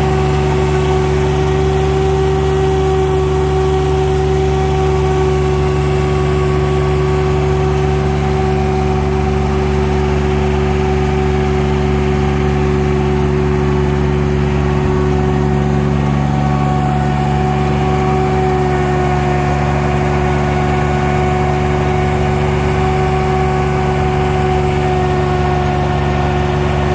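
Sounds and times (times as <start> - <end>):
sprayer engine and blower running: 0.0 - 26.9.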